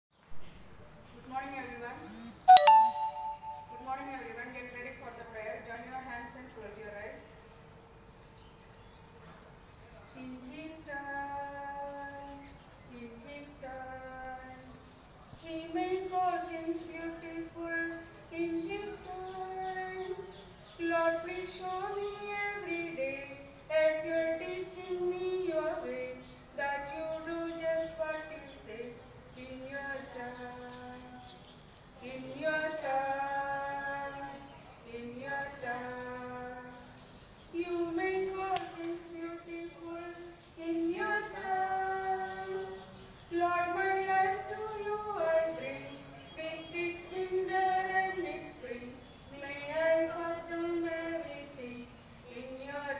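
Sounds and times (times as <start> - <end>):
woman singing unaccompanied: 10.2 - 52.9.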